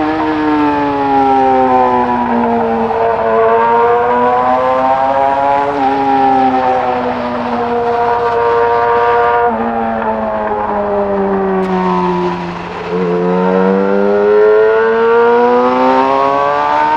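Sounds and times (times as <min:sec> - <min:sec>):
motorcycle engine at high revs: 0:00.0 - 0:16.9
wind and road noise: 0:00.0 - 0:16.9.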